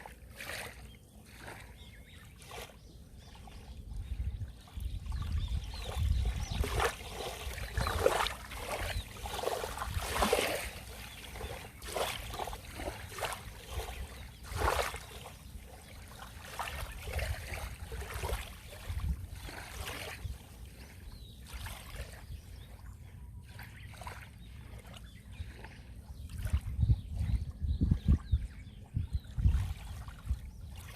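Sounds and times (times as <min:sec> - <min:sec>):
small waves splashing on shore: 0:00.0 - 0:27.4.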